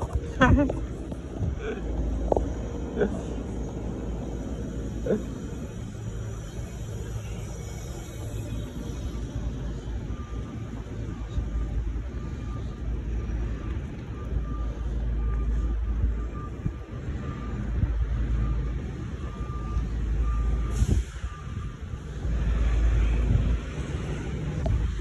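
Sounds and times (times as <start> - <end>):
reversing alarm beeping: 0.0 - 25.0
wind rumble on microphone: 0.0 - 25.0.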